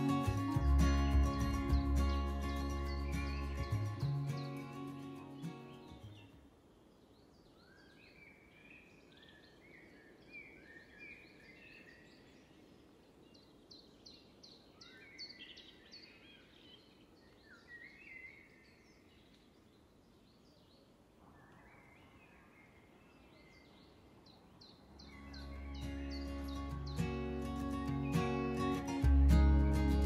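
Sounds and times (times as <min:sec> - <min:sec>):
faint birdsong: 0:00.0 - 0:30.0.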